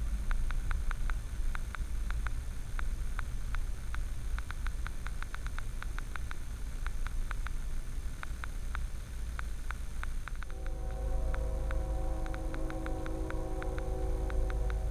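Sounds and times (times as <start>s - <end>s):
sharp irregular ticks: 0.2s - 14.9s.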